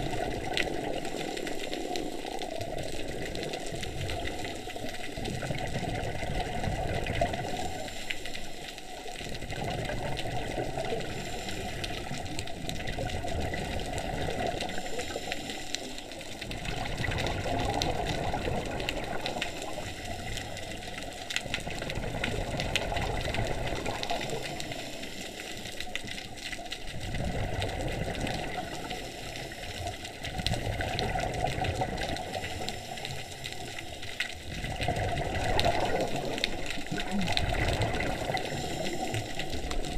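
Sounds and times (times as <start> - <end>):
exhaled bubbles gurgling: 0.0 - 39.9.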